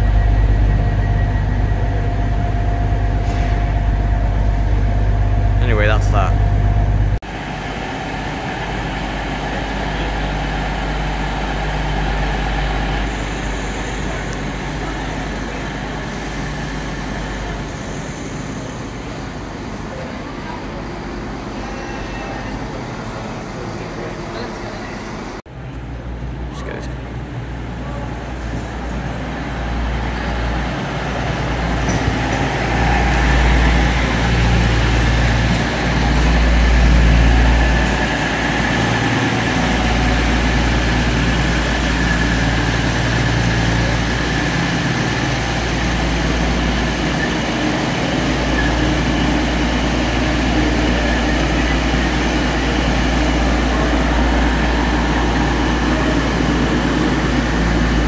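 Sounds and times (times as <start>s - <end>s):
train diesel engines rumbling: 0.0s - 58.0s.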